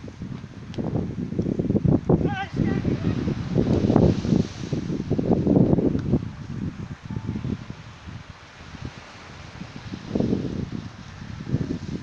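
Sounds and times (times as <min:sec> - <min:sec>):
steady outdoor hiss: 0:00.0 - 0:12.0
wind buffeting microphone: 0:00.0 - 0:12.0.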